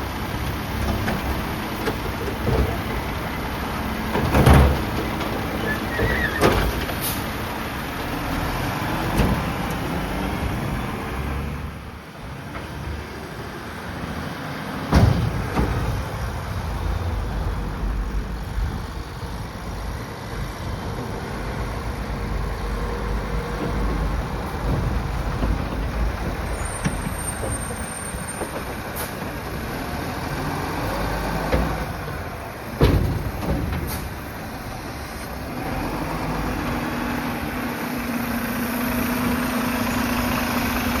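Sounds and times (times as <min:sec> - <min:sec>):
garbage truck diesel engine running: 0:00.0 - 0:41.0.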